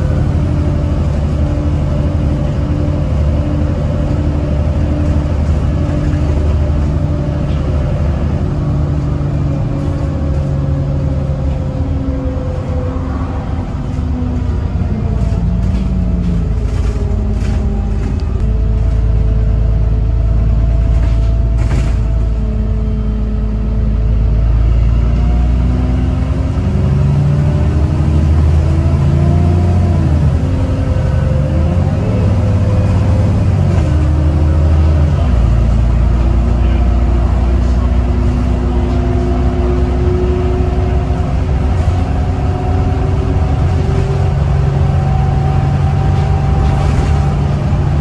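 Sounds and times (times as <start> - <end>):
bus engine running: 0.0 - 48.0.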